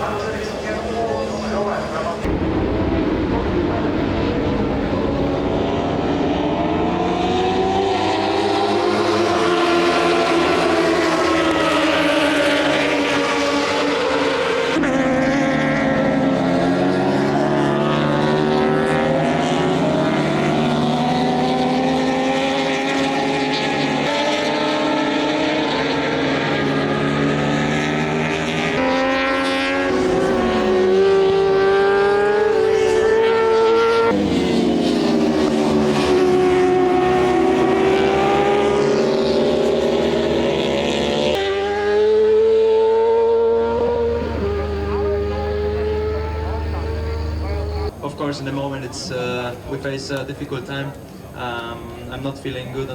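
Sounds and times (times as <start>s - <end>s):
racing motorcycle engines revving: 0.0s - 52.9s.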